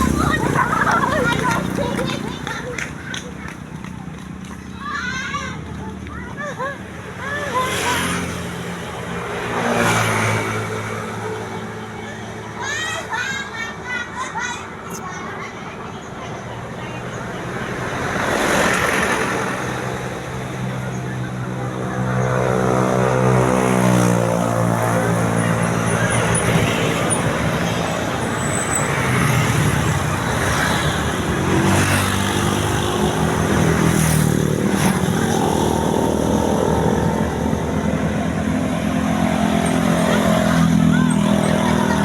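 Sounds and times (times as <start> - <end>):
engine humming steadily: 0.0 - 9.4, 10.4 - 42.0
vehicle passing by: 0.0 - 13.7, 16.1 - 42.0
engine rumble and road noise: 0.0 - 42.0.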